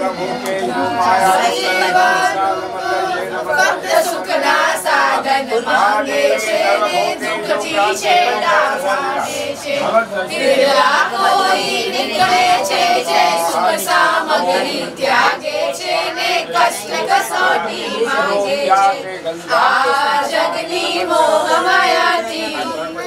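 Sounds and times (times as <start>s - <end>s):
group of women singing: 0.0s - 23.0s.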